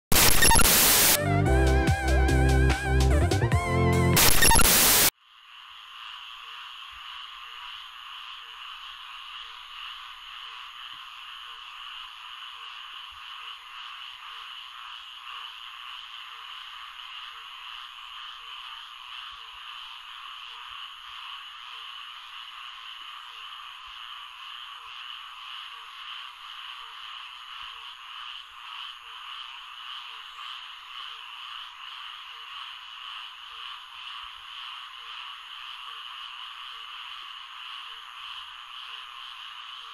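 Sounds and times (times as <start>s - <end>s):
frog chorus: 4.2s - 39.9s
low repeating frog call: 4.2s - 39.9s.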